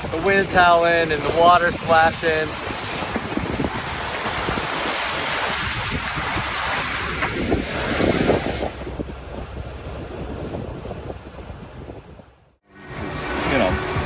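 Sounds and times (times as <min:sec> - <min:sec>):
water rushing past hull: 0:00.0 - 0:14.0
wind howling across microphone: 0:00.0 - 0:14.0.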